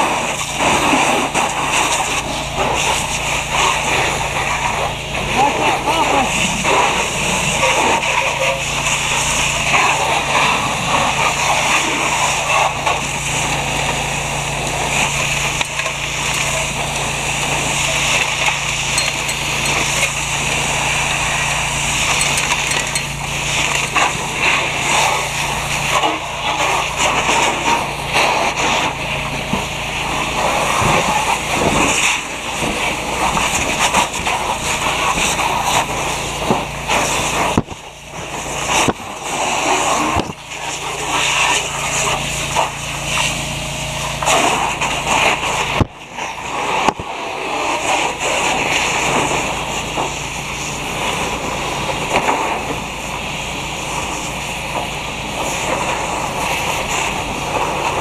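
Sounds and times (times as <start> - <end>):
fire hose spraying water: 0.0 - 58.0.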